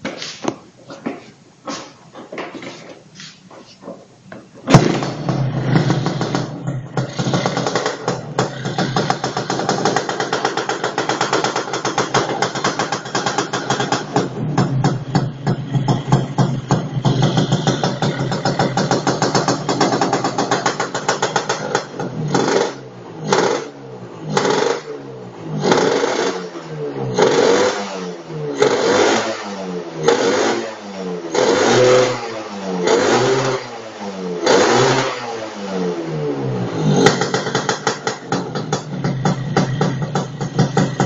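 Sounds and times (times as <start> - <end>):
motorcycle engine revving: 4.7 - 41.0.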